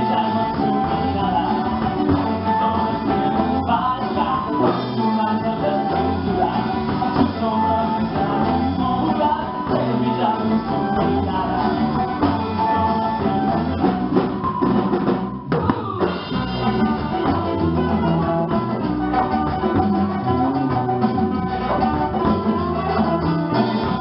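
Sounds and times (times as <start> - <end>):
congas: 0.0 - 24.0
live folk band: 0.0 - 24.0.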